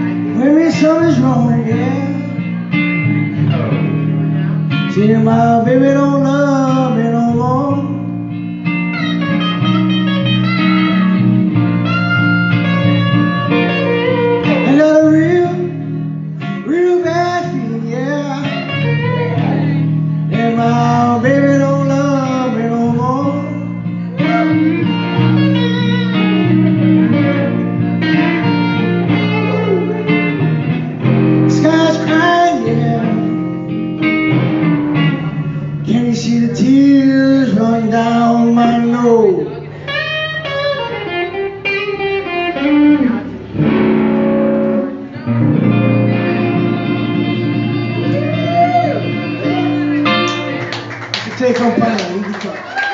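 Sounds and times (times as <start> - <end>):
blues guitar playing: 0.0 - 52.9.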